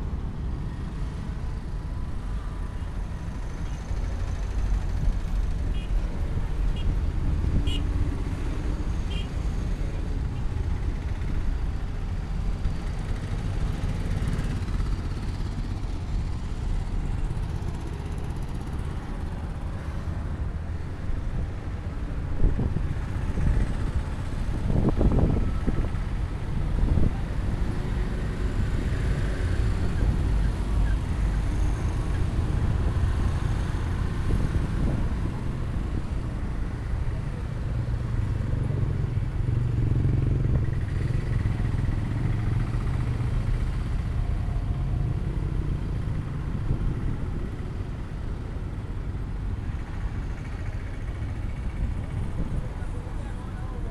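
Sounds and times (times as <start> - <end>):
traffic rumble: 0.0 - 53.9.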